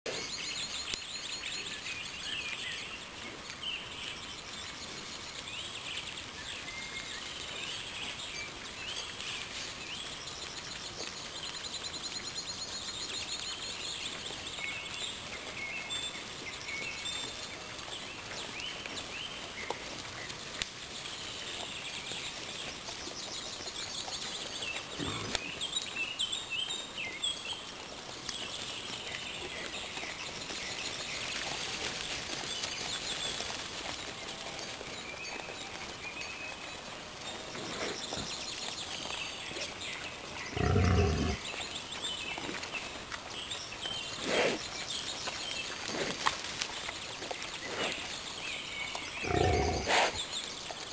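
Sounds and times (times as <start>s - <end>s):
songbirds chirping and trilling: 0.1s - 50.9s
steady outdoor hiss: 0.1s - 50.9s.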